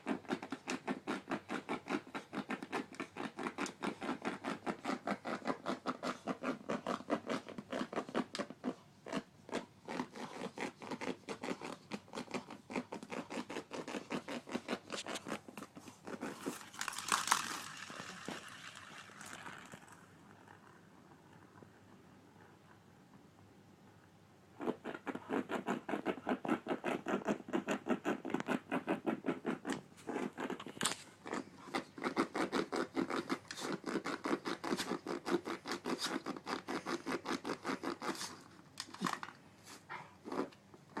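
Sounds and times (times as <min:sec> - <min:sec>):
rhythmic scratching at cat toy: 0:00.0 - 0:20.8, 0:24.6 - 0:41.0.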